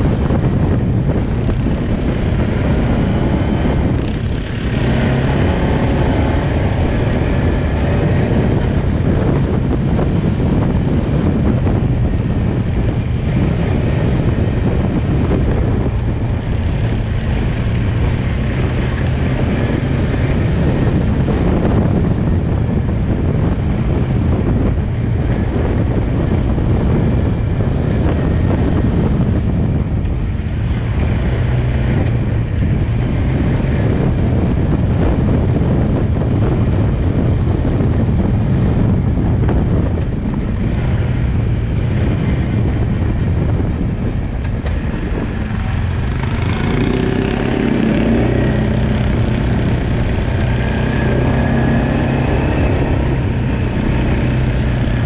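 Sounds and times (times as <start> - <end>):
quad bike engine running: 0.0 - 55.0
wind buffeting microphone: 0.0 - 55.0.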